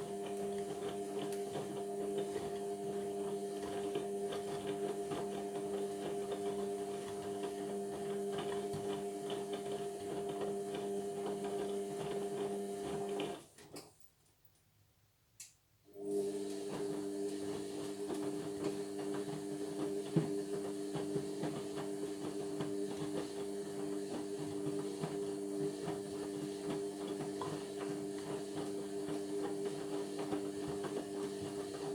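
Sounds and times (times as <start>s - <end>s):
washing machine running: 0.0s - 13.5s, 15.9s - 31.9s.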